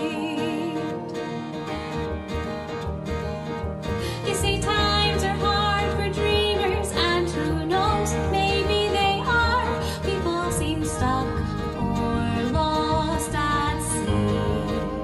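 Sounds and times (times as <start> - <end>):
woman singing a ballad: 0.0 - 1.4, 4.1 - 15.0
acoustic guitar: 0.0 - 15.0
bass guitar: 0.0 - 15.0
piano: 0.0 - 15.0.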